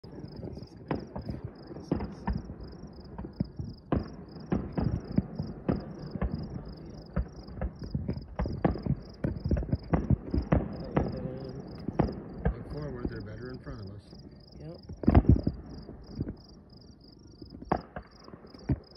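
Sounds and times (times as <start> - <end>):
crickets chirping: 0.0 - 18.9
distant fireworks booming: 0.0 - 18.9.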